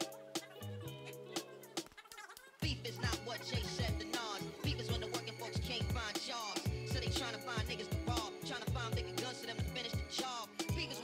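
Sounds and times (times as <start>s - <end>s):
hip hop music: 0.0s - 11.0s
hi-hat ticks: 1.4s - 11.0s.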